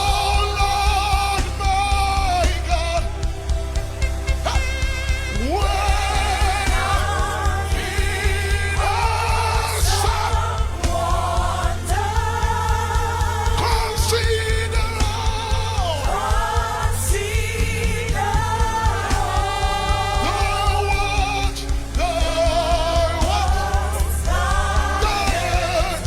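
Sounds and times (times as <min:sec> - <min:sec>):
band with steady bass beat: 0:00.0 - 0:26.0
voices singing gospel: 0:00.0 - 0:26.0.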